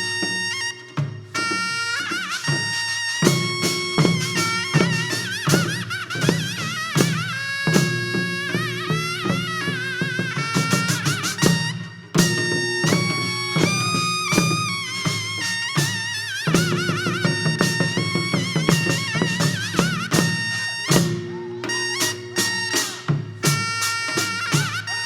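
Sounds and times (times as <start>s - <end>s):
drum strokes: 0.0s - 25.0s
reed wind instrument melody: 0.0s - 25.0s.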